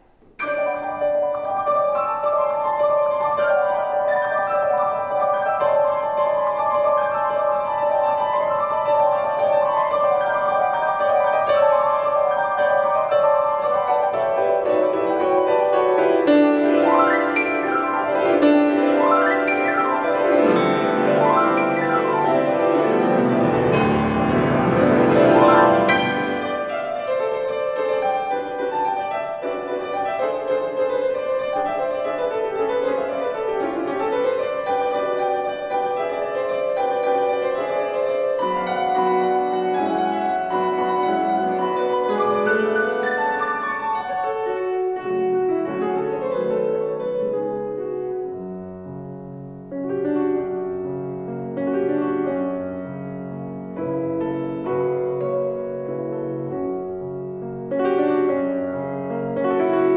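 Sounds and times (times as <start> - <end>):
two pianos playing classical music: 0.0 - 59.9.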